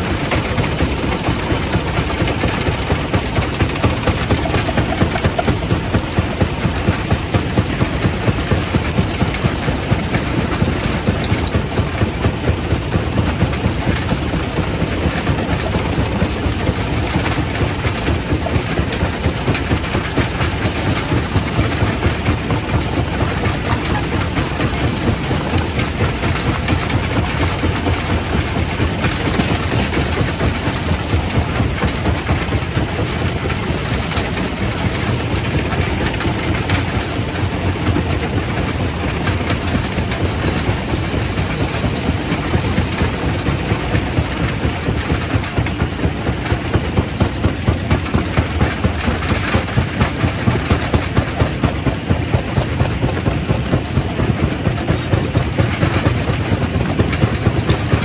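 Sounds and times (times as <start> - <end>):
rock crusher rumbling: 0.0 - 58.0.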